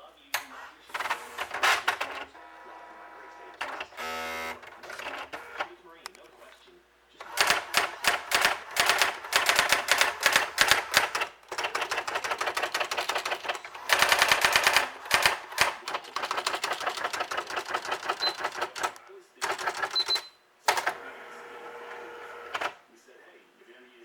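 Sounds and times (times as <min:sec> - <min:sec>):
typewriter printing strikes: 0:00.4 - 0:05.8, 0:07.2 - 0:22.8.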